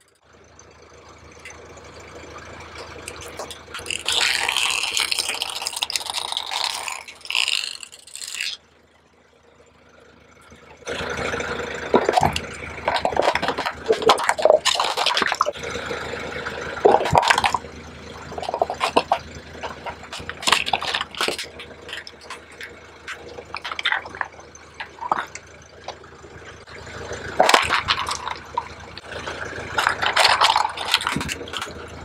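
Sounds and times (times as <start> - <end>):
wet crackling under a car tyre: 1.2 - 8.6, 10.4 - 32.0.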